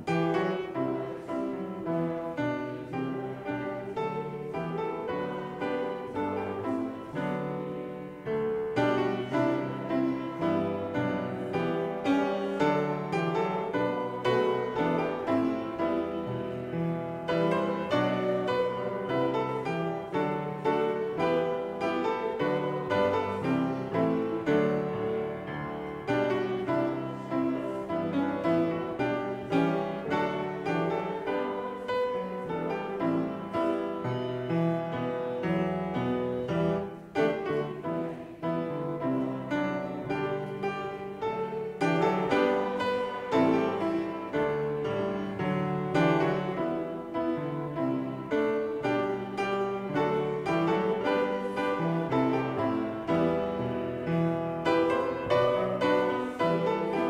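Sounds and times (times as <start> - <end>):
piano playing hymn chords: 0.0 - 57.0.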